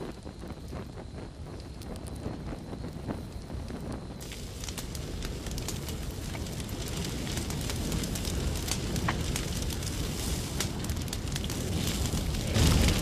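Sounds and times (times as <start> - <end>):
burning timber crackling and popping: 0.0 - 13.0
low rumble of flames: 0.0 - 13.0.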